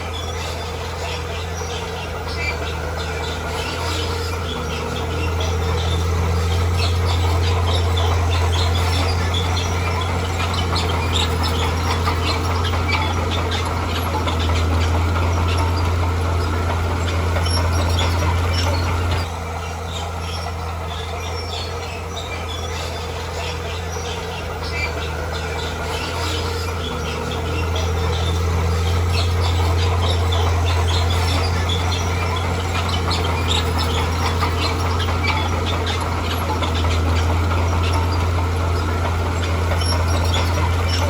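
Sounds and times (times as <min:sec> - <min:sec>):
heavy machine engine humming: 0:00.0 - 0:41.0.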